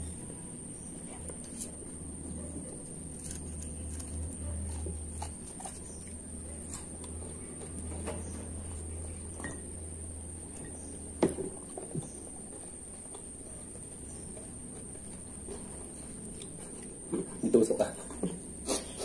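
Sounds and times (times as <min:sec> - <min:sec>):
people chewing: 0:01.0 - 0:09.7, 0:10.4 - 0:19.0.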